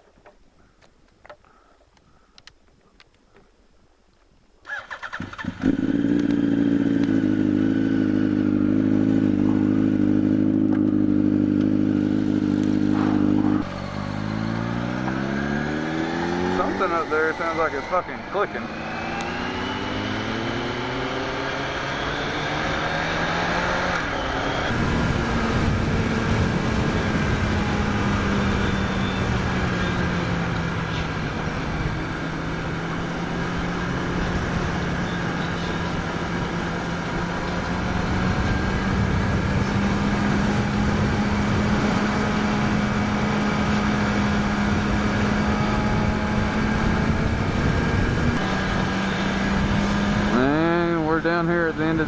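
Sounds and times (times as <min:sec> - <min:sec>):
motorcycle engine revving: 0:04.7 - 0:52.0
wind and road rush: 0:04.7 - 0:52.0.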